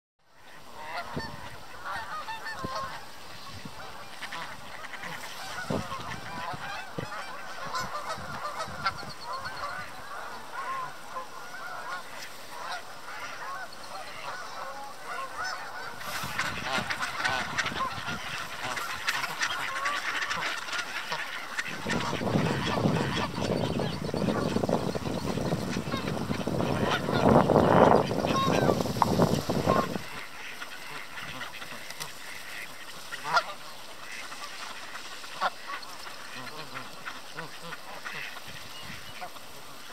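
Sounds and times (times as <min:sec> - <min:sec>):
ducks quacking: 0:00.4 - 0:39.9
geese honking: 0:00.4 - 0:39.9.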